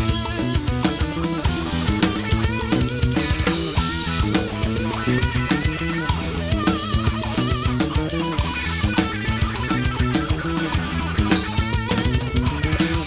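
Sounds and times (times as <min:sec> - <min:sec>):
drum kit beat: 0:00.0 - 0:13.0
electric bass: 0:00.0 - 0:13.0
electric guitar: 0:00.0 - 0:13.0.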